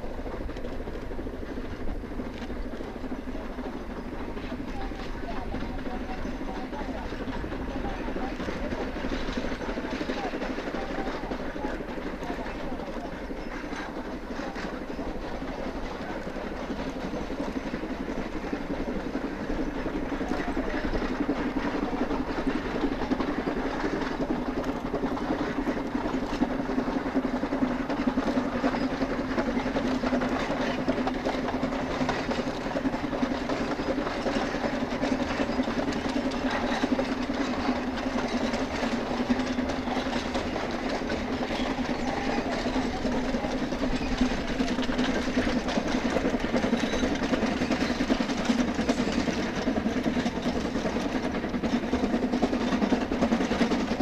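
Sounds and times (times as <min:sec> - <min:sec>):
distant steam locomotive working: 0:00.0 - 0:54.0
train rolling: 0:00.0 - 0:54.0.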